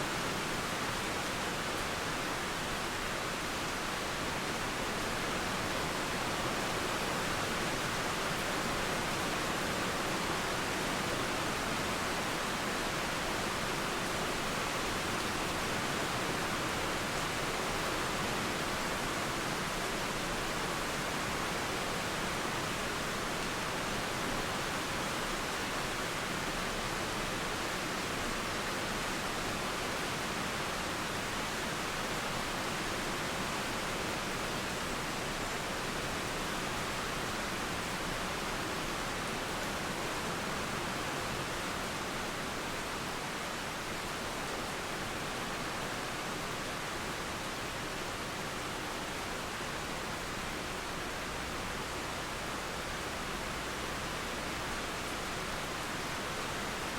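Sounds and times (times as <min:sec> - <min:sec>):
flowing river water: 0:00.0 - 0:56.9
steady rain: 0:00.0 - 0:56.9.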